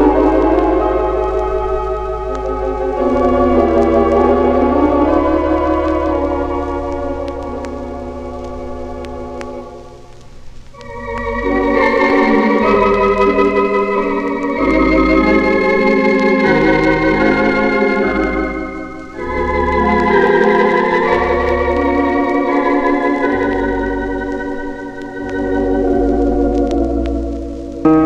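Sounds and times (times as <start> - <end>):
organ playing a slow hymn: 0.0 - 10.0, 10.8 - 28.0.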